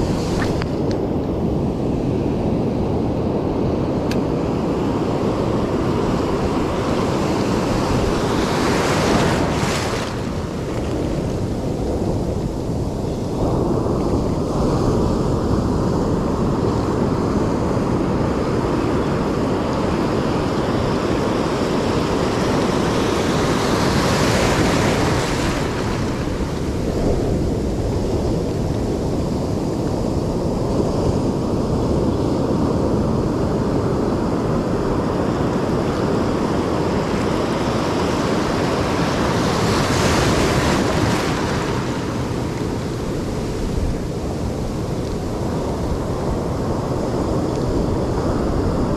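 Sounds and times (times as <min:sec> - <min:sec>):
ocean surf washing: 0:00.0 - 0:48.9
wind rumbling on microphone: 0:00.0 - 0:48.9.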